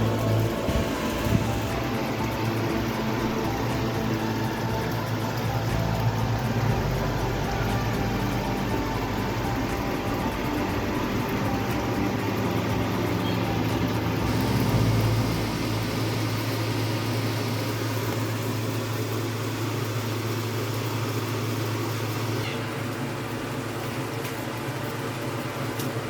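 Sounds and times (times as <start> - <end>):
small electric motors humming: 0.0 - 26.0.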